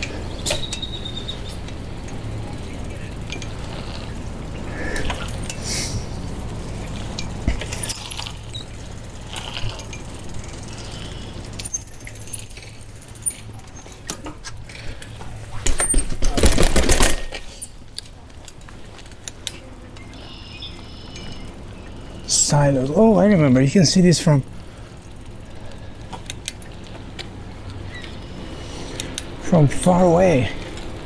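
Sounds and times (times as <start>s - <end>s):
bicycle rattling down stairs: 0.0s - 31.0s.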